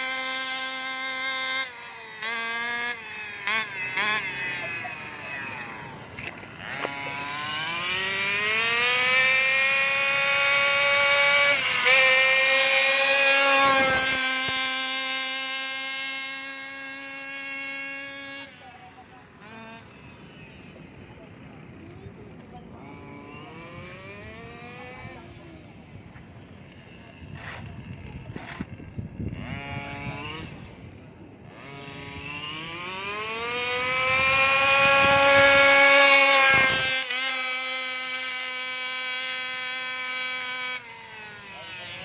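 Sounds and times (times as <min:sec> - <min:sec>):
rc car two-stroke engine revving: 0:00.0 - 0:42.0.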